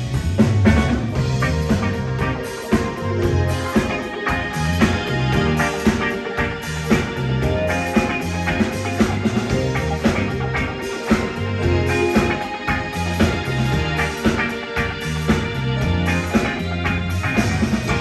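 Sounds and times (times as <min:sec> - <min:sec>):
bass line: 0:00.0 - 0:18.0
drum kit beat: 0:00.0 - 0:18.0
guitar: 0:00.0 - 0:18.0.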